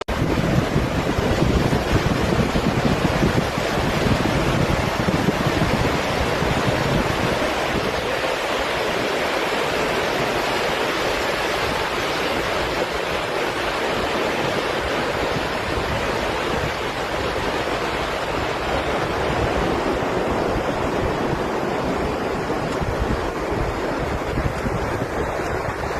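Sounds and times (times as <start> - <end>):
waves breaking on beach: 0.1 - 25.9
wind rumble on microphone: 0.1 - 25.9.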